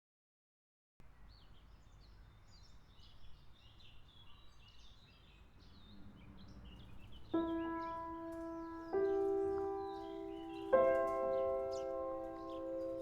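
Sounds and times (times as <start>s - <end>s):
birds chirping: 1.0s - 13.0s
soft low outdoor rumble: 1.0s - 13.0s.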